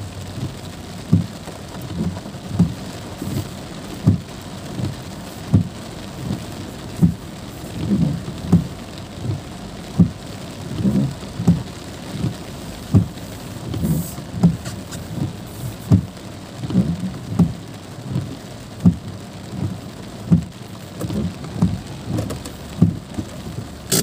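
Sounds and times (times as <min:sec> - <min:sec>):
heavy rain drumming on car: 0:00.0 - 0:24.0
windscreen wipers thumping: 0:00.0 - 0:24.0.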